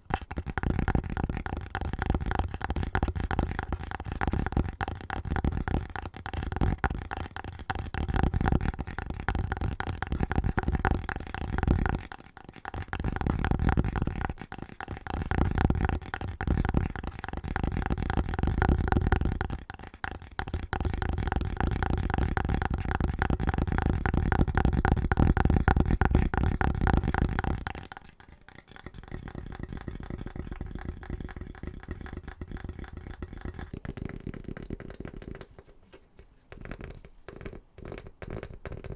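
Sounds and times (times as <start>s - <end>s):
fast tapping on objects: 0.0s - 38.9s.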